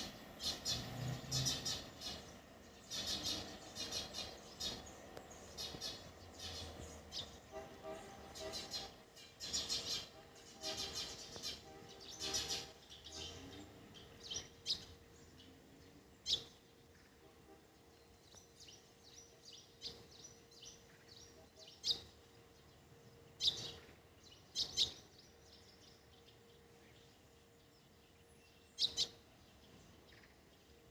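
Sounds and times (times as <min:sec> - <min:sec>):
birds chirping: 0:00.0 - 0:30.9
faint steady hum: 0:00.0 - 0:30.9.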